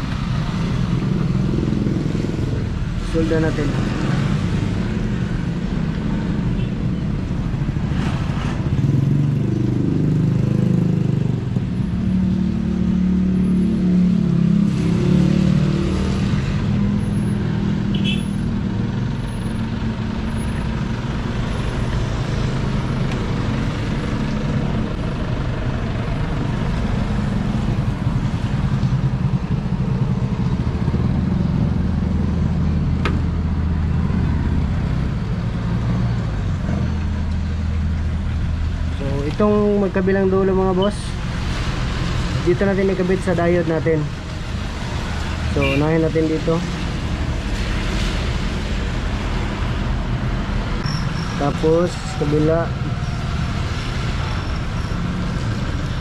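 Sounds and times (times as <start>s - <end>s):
motor vehicle rumble: 0.0s - 56.0s.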